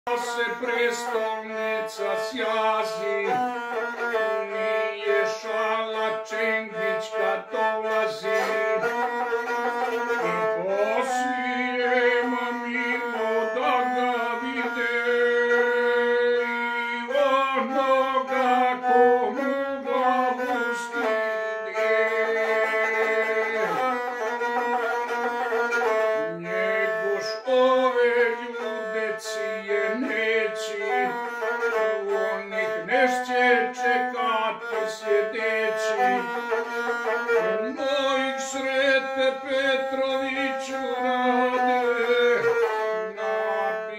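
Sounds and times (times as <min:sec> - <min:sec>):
bowed single-string fiddle melody: 0:00.0 - 0:43.9
person singing verses: 0:00.1 - 0:09.0, 0:09.8 - 0:24.2, 0:26.1 - 0:42.6.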